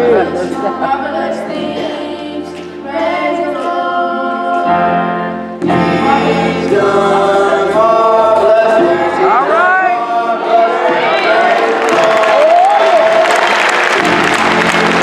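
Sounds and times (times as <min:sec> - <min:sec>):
gospel choir singing in harmony: 0:00.0 - 0:15.0.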